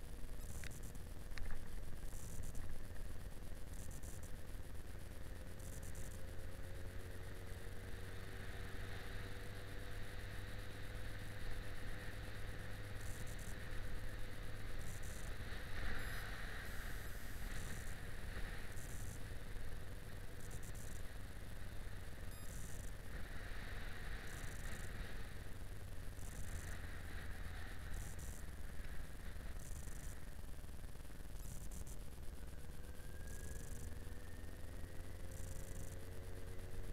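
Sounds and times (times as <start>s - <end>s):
motorcycle engine running: 0.0s - 36.9s
wind and road noise: 0.0s - 36.9s.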